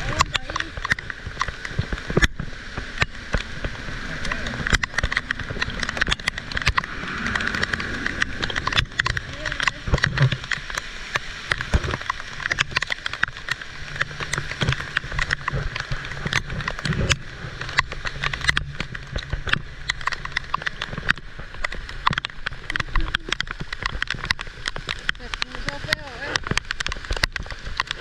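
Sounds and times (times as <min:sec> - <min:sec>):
heavy rain falling: 0:00.0 - 0:28.0
raindrops hitting near microphone: 0:00.0 - 0:28.0.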